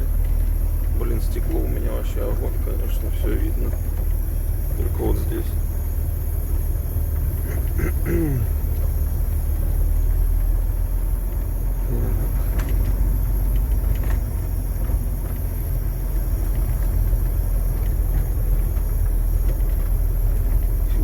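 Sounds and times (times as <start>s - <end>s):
diesel engine rumble: 0.0s - 21.0s.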